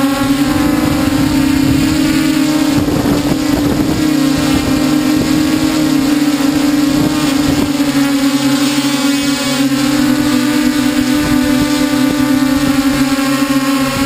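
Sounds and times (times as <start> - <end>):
drone propellers whirring: 0.0 - 14.0.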